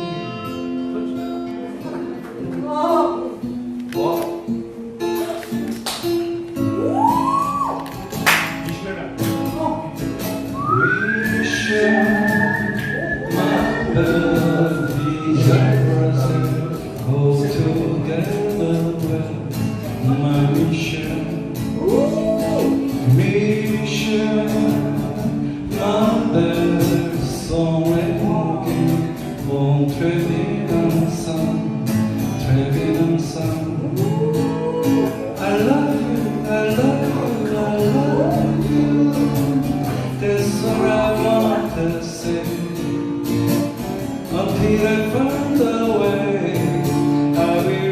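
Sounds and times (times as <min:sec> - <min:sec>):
man singing: 0:00.0 - 0:01.9, 0:08.7 - 0:43.5, 0:44.2 - 0:47.9
strummed acoustic guitar: 0:00.0 - 0:47.9.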